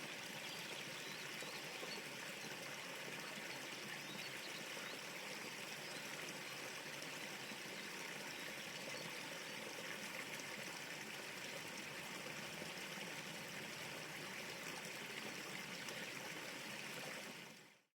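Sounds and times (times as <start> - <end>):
river water flowing: 0.0 - 17.6.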